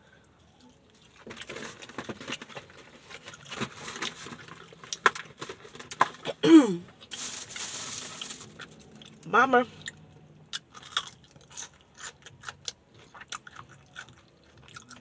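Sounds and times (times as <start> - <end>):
chewing and crunching food: 0.2 - 6.4, 7.1 - 15.0.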